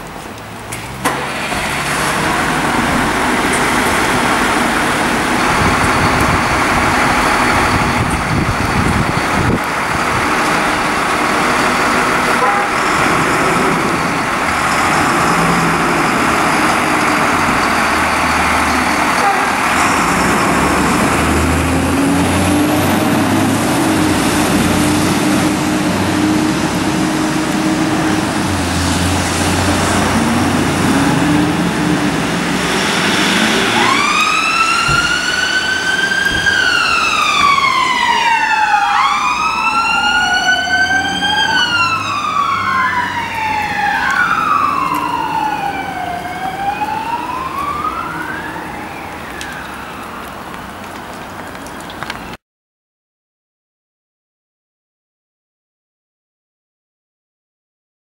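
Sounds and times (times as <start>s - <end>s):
diesel engine revving: 0.4s - 49.0s
sirens wailing: 1.2s - 52.4s.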